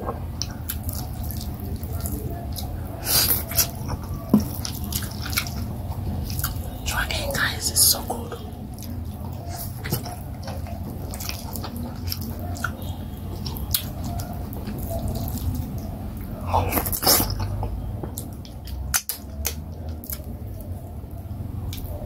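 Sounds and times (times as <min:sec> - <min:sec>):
wet chewing and lip smacks: 0:00.3 - 0:07.1, 0:07.8 - 0:20.9, 0:21.6 - 0:22.0.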